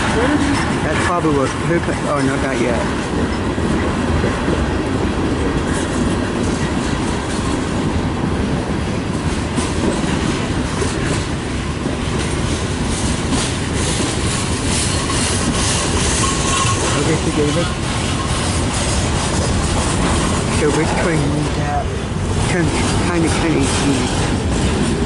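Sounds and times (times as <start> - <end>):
steel wheels rumbling on rail: 0.0 - 25.0
wheels clicking over rail joints: 0.0 - 25.0.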